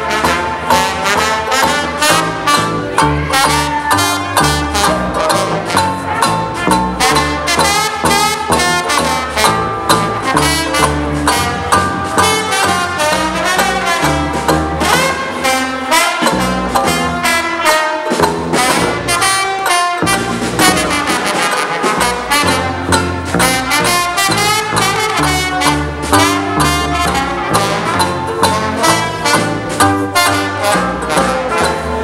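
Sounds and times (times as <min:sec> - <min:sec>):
swing band playing: 0:00.0 - 0:32.0.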